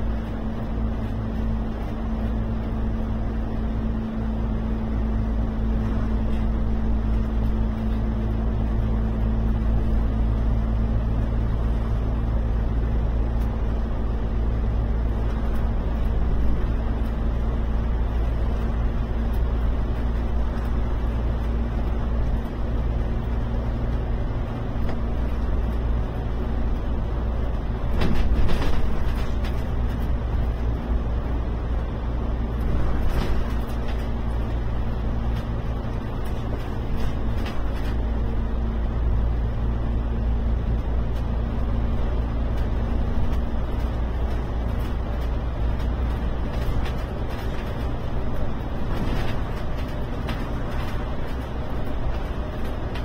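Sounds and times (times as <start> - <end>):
bus engine hum: 0.0 - 53.0
tyre and road noise: 0.0 - 53.0.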